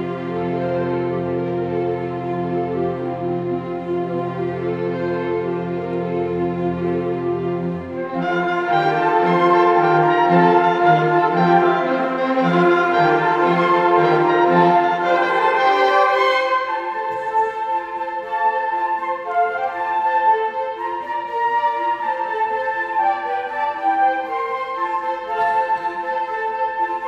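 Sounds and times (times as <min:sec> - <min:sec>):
orchestra playing christmas music: 0:00.0 - 0:27.0.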